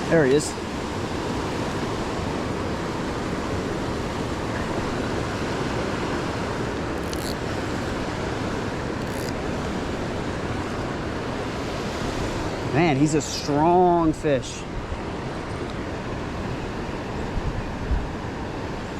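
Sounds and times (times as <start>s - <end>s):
wind and water rushing: 0.0s - 18.9s.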